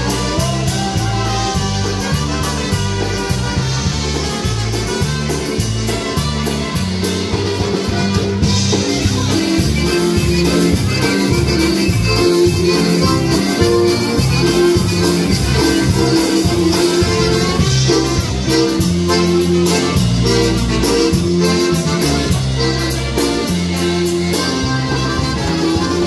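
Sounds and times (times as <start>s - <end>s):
concertina: 0.0s - 26.0s
drums keeping a beat: 0.0s - 26.0s
electric bass: 0.0s - 26.0s
piano accordion: 0.0s - 26.0s
trumpets: 0.0s - 26.0s.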